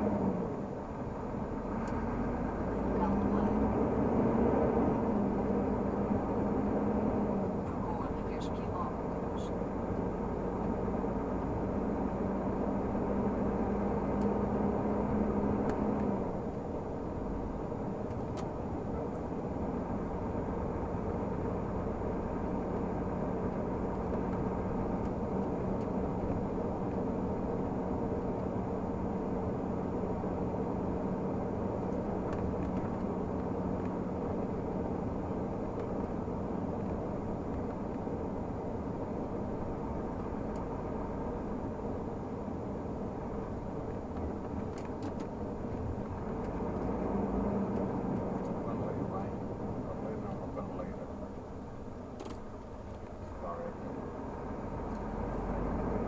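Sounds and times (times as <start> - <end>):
road noise: 0.0 - 56.0
truck diesel engine droning: 0.0 - 56.0.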